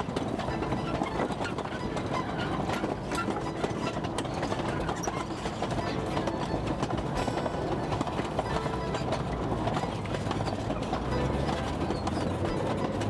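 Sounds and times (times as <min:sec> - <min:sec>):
wagons rolling on rails: 0:00.0 - 0:13.0
wheel and coupling clicks: 0:00.0 - 0:13.0.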